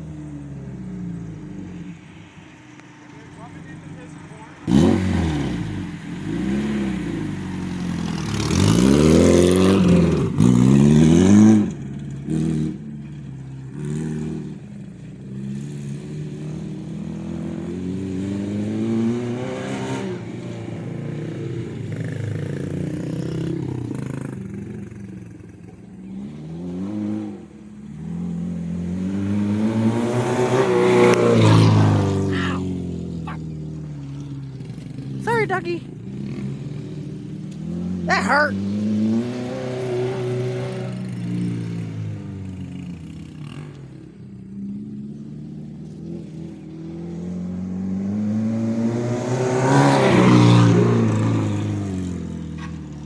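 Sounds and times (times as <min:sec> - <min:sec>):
car engine accelerating and shifting: 0:00.0 - 0:24.9, 0:26.0 - 0:35.2, 0:35.9 - 0:53.0.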